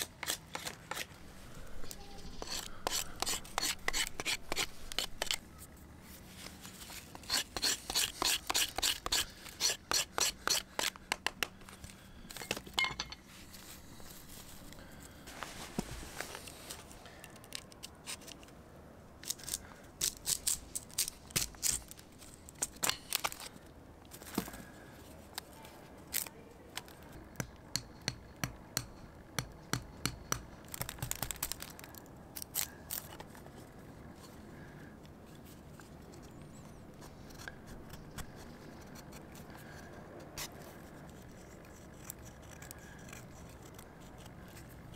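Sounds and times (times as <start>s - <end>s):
knife shaving a dry stick: 0.0s - 12.4s, 13.3s - 18.5s, 19.2s - 23.6s, 30.0s - 44.9s.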